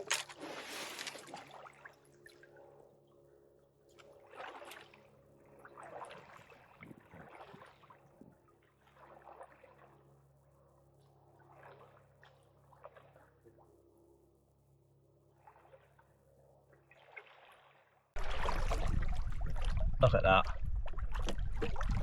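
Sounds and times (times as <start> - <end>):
paddle strokes in water: 0.0 - 2.8, 3.9 - 13.8, 15.2 - 22.0.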